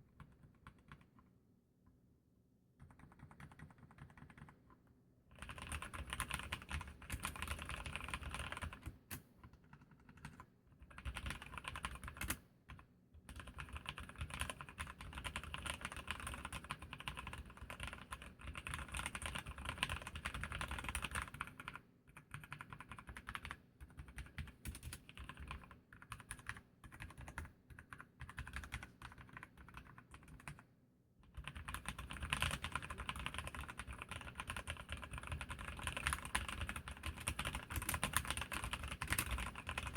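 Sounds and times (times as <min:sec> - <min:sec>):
mechanical keyboard typing: 0:00.0 - 0:01.3, 0:02.8 - 0:39.9.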